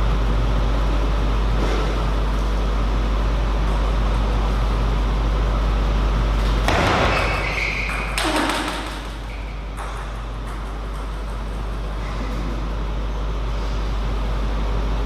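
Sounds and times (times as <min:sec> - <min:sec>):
low hall hum: 0:00.0 - 0:15.0.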